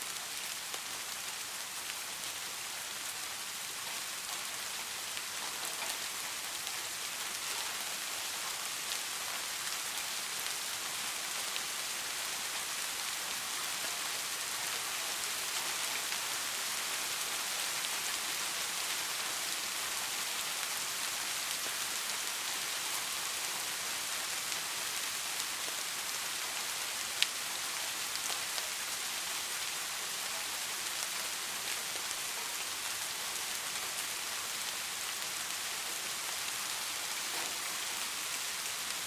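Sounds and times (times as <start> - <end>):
rain pattering on a surface: 0.0 - 39.0.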